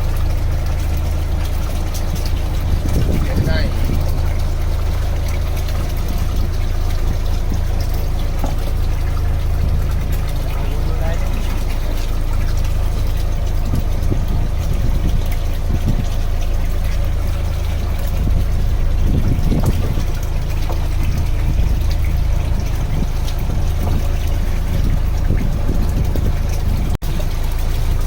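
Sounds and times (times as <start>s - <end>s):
boat engine humming: 0.0s - 28.0s
water trickling and splashing: 0.0s - 28.0s.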